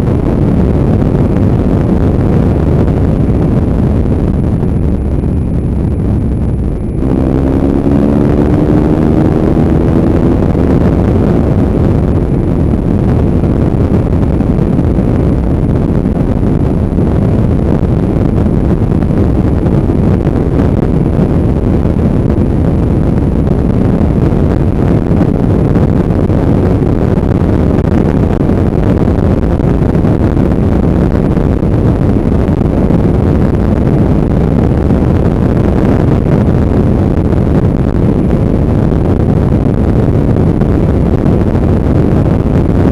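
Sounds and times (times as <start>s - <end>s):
motorcycle engine rumble: 0.0s - 42.9s
wind rushing over microphone: 0.0s - 42.9s.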